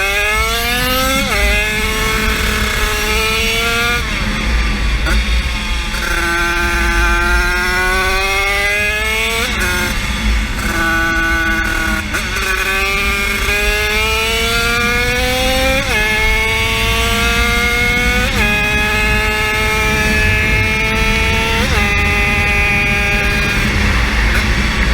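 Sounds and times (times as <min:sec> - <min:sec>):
small engine at full throttle: 0:00.0 - 0:24.9.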